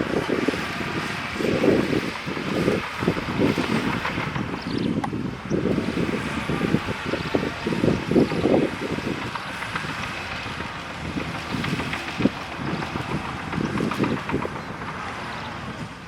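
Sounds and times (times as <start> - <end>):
diesel engine running: 0.0 - 16.0
wind buffeting microphone: 0.0 - 16.0.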